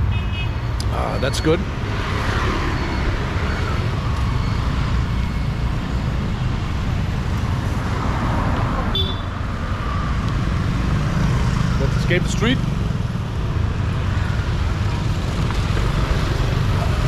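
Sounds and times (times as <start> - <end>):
traffic engines rumbling: 0.0 - 17.0.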